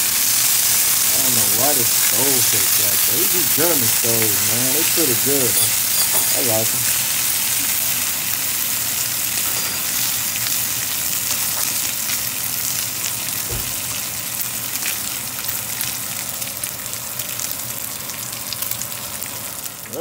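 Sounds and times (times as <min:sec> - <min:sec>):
bacon sizzling in grease: 0:00.0 - 0:20.0.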